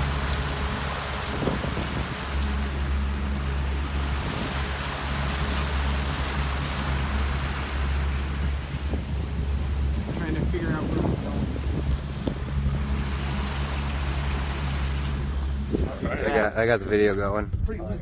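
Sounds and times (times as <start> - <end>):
water rushing from wake: 0.0 - 16.5
outboard motor hum: 0.0 - 16.6.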